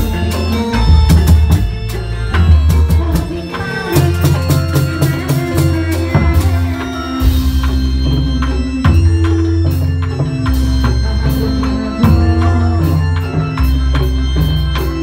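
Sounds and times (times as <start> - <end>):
deep bass line: 0.0 - 15.0
drums: 0.0 - 15.0
live dance music: 0.0 - 15.0.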